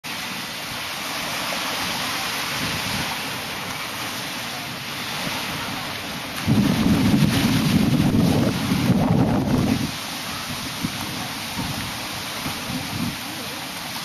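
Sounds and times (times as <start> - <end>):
surf washing on shore: 0.0 - 14.0
wind on microphone: 0.8 - 4.0, 5.0 - 14.0.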